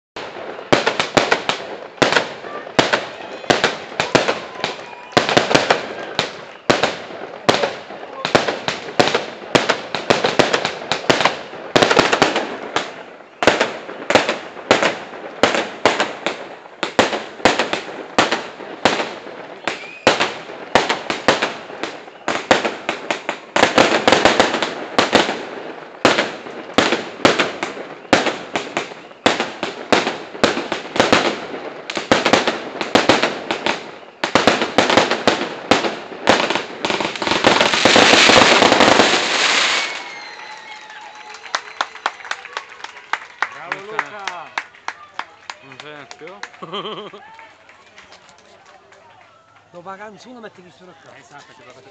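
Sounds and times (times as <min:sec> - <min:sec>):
fireworks crackling and hiss: 0:00.2 - 0:44.9, 0:45.6 - 0:51.9
fireworks bangs: 0:00.2 - 0:45.0.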